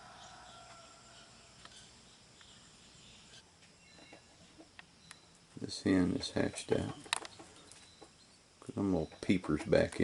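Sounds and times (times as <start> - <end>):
distant bird chirps: 0.0 - 10.0.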